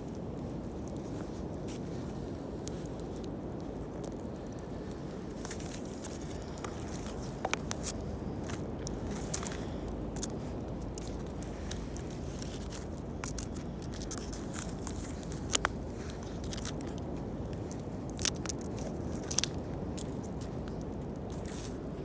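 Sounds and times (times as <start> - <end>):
sharp snaps and pops: 0.0 - 21.8
wood fire crackling: 0.0 - 22.0.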